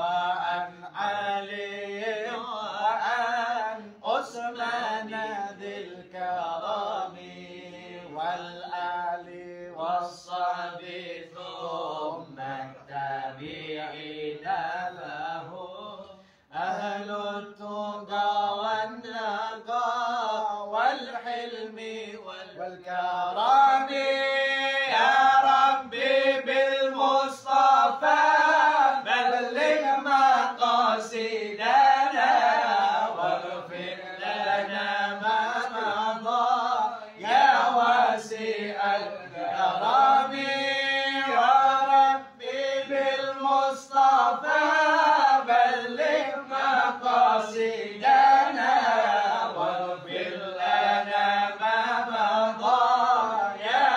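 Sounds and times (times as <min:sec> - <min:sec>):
men singing together: 0:00.0 - 0:53.9.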